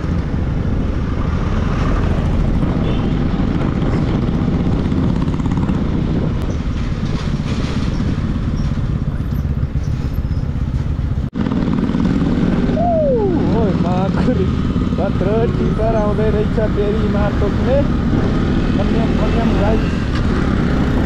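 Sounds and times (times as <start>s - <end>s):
road and wind noise: 0.0s - 21.0s
motorcycle engine running: 2.4s - 21.0s.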